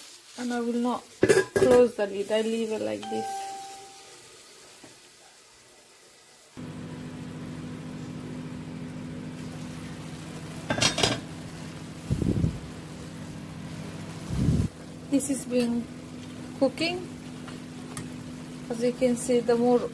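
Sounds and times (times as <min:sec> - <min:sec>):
chicken sizzling in a skillet: 0:00.0 - 0:19.9.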